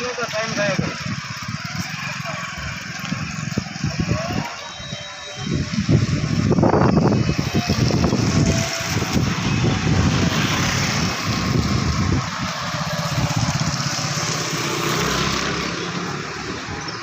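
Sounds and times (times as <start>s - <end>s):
vehicle engine running: 0.0s - 4.8s, 5.5s - 16.8s.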